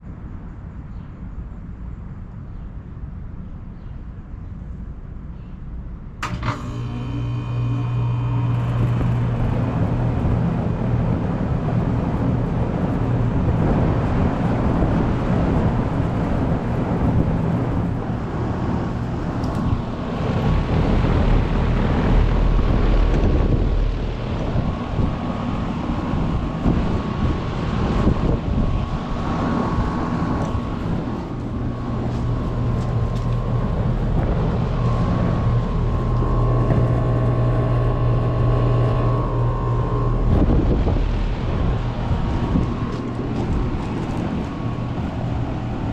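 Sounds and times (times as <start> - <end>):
fan rushing air: 0.0 - 45.9
compressor low hum: 1.2 - 45.9.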